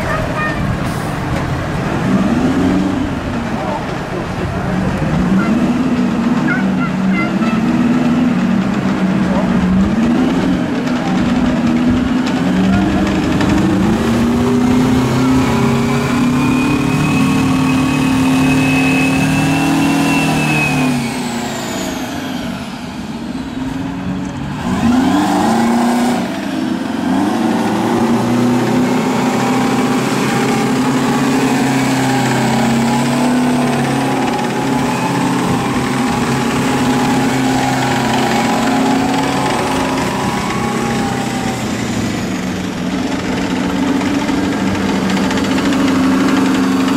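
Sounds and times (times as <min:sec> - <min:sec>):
engine revving: 0:00.0 - 0:46.9
tracked vehicles driving past: 0:00.0 - 0:46.9.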